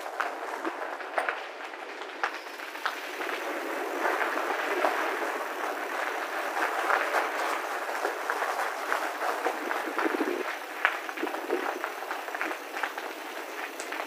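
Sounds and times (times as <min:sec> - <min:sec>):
bicycle tyres crunching gravel: 0:00.0 - 0:14.0.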